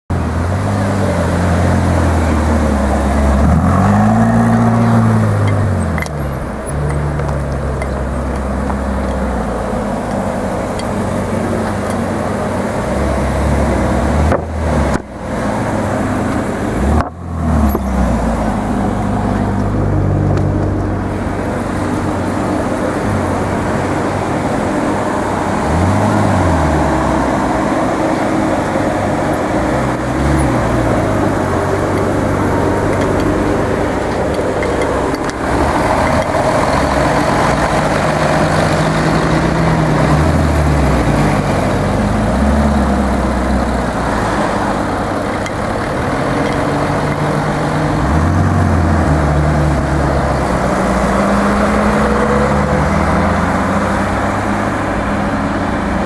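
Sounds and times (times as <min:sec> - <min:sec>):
street traffic: 0:00.0 - 0:56.0
car engine revving: 0:00.1 - 0:56.0.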